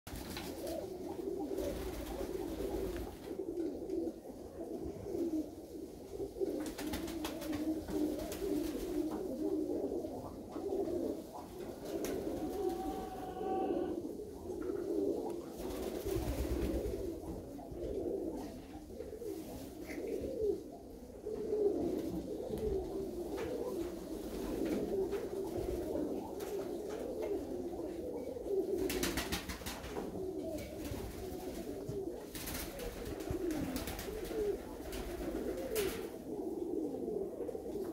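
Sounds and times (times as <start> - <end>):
pigeons cooing: 0.1 - 37.9.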